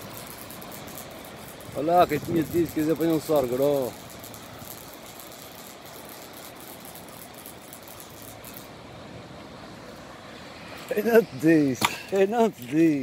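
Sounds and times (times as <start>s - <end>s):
sea surf on rocky shore: 0.0s - 13.0s.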